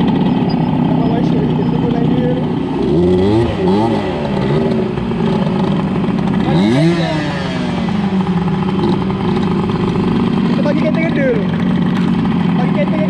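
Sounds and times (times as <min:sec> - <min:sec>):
small motorcycle engine revving: 0:00.0 - 0:13.0.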